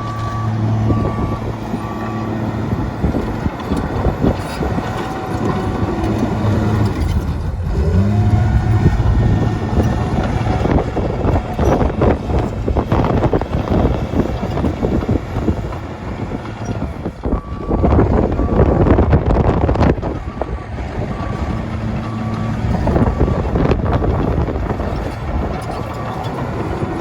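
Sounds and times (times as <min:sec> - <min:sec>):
dozer diesel engine under load: 0:00.0 - 0:27.0.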